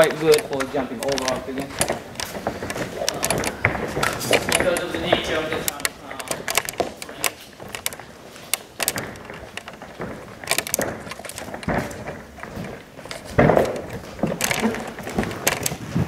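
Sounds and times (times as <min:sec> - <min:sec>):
knocks and thumps: 0:00.0 - 0:16.0
rustles: 0:00.0 - 0:16.0.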